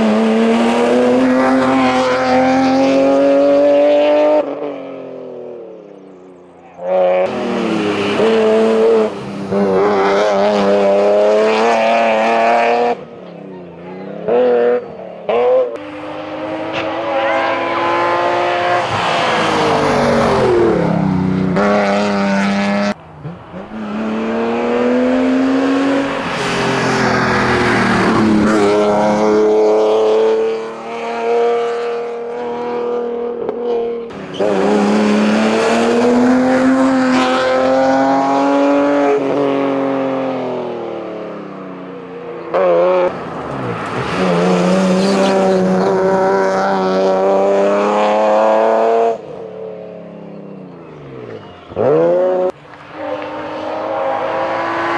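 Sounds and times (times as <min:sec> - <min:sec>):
racing car engine accelerating: 0:00.0 - 0:05.4, 0:06.9 - 0:54.9.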